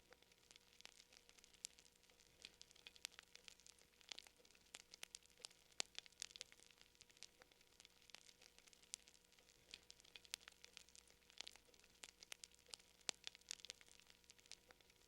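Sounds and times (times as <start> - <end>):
faint steady hiss: 0.0 - 15.0
wood fire crackling: 0.0 - 15.0.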